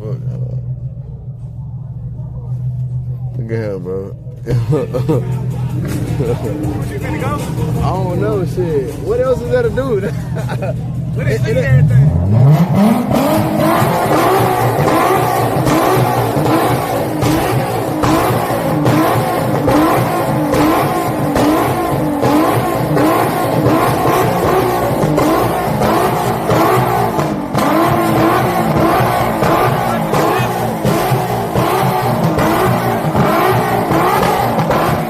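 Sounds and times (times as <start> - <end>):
car engine revving hard: 4.6 - 35.0.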